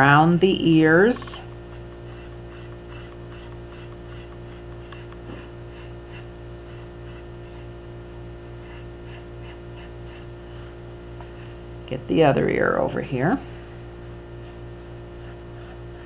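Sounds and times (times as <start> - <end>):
electrical hum: 0.0 - 16.0
bristle brush scrubbing: 0.5 - 11.6, 12.9 - 16.0.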